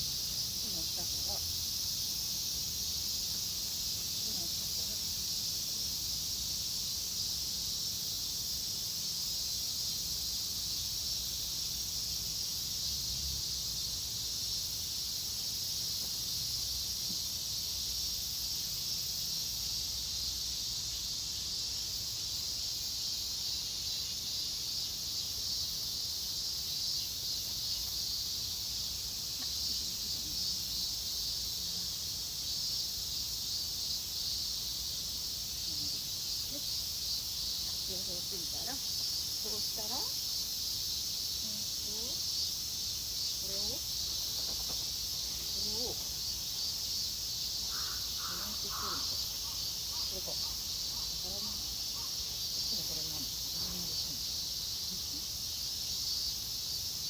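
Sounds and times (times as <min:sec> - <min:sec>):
insects chirping shrilly: 0:00.0 - 0:57.0.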